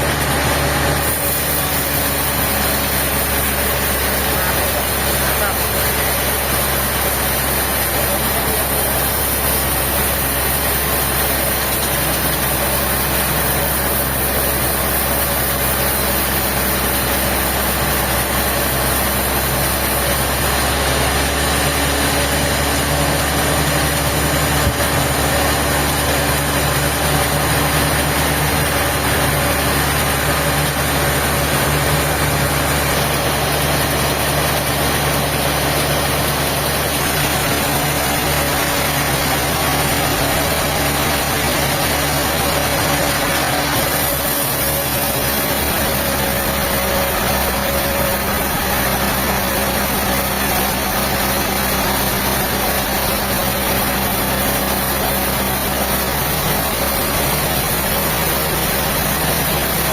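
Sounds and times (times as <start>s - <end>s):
heavy engine running: 0.0s - 59.9s.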